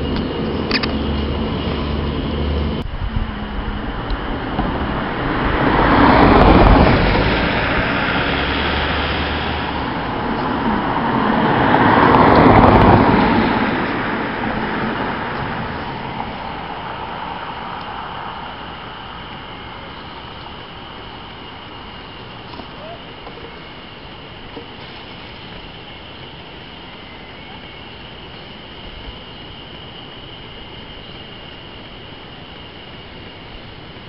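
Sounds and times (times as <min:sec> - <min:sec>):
steady low hum: 0:00.0 - 0:34.0
vehicles passing: 0:00.0 - 0:34.0.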